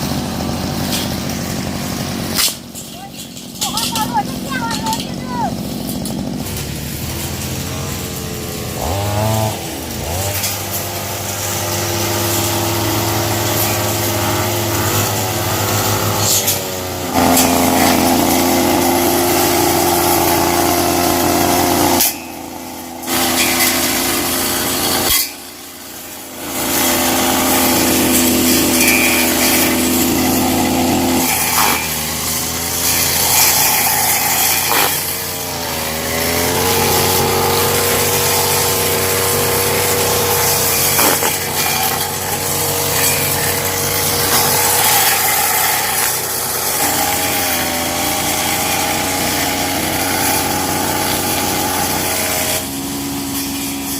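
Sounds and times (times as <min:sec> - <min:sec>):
small petrol engine revving: 0:00.0 - 0:53.9.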